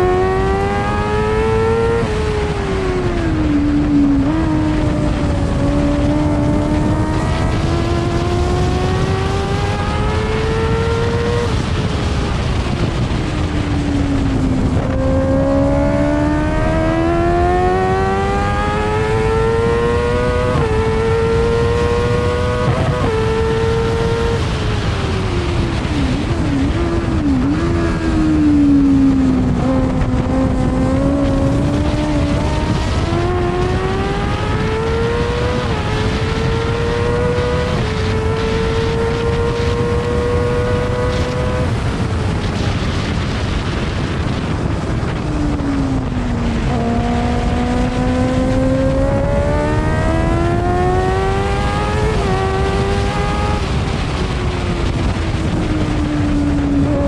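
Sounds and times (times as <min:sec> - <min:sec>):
racing engine accelerating: 0:00.0 - 0:42.6, 0:44.2 - 0:57.0
wind and track noise: 0:00.0 - 0:57.0.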